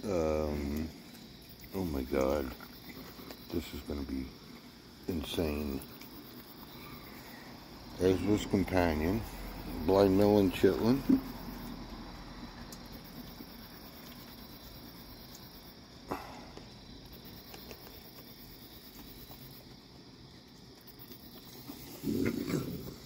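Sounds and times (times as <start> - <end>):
high insect trill: 0.0 - 23.0
animals crunching dry food: 0.1 - 23.0.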